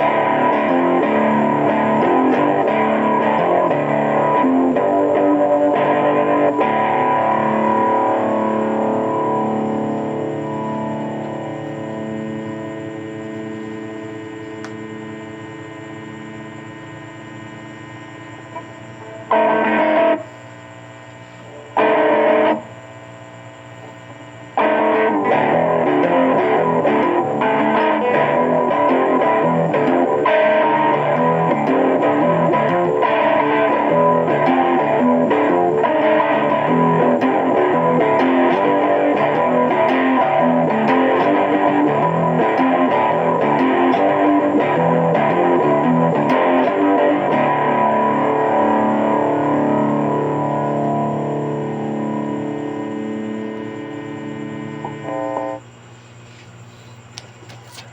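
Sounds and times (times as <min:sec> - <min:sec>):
electric guitar through amplifier: 0:00.0 - 0:57.9.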